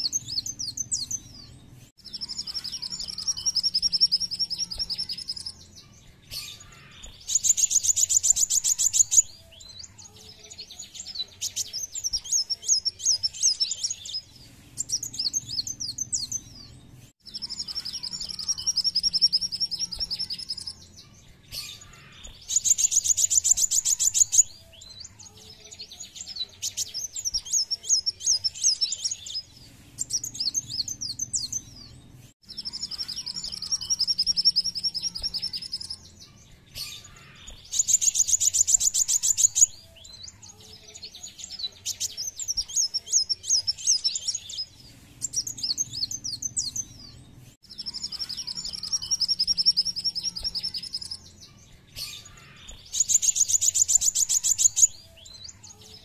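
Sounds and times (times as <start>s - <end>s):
sunbird twittering trills: 0.0s - 56.0s.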